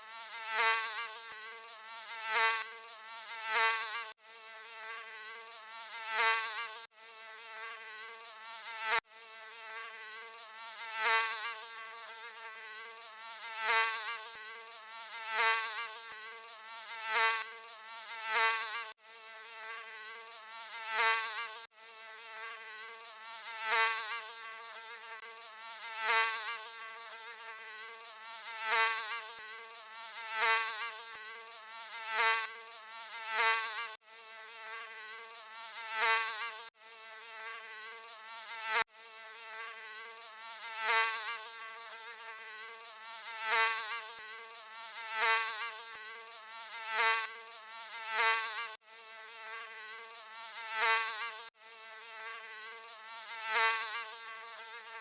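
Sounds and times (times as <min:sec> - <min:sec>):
mosquito buzzing: 0:00.0 - 0:55.0.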